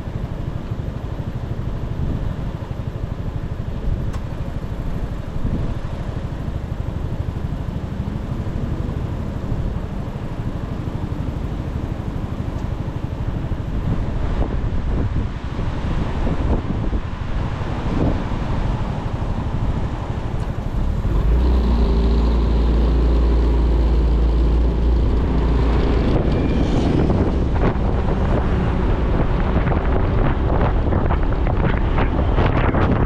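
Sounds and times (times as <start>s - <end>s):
wind buffeting microphone: 0.0s - 11.5s, 12.2s - 33.0s
motorcycle engine hum: 0.0s - 33.0s
road noise: 0.0s - 33.0s.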